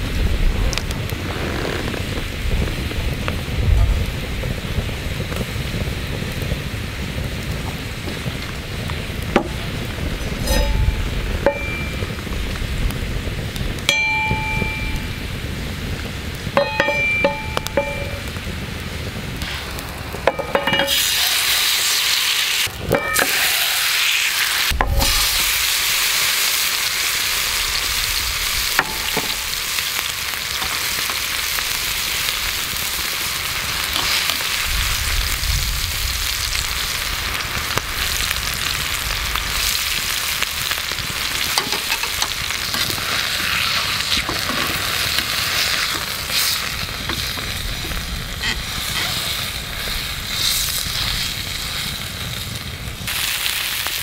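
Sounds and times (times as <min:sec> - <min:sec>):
beef sizzling in a frying pan: 0:04.0 - 0:54.0.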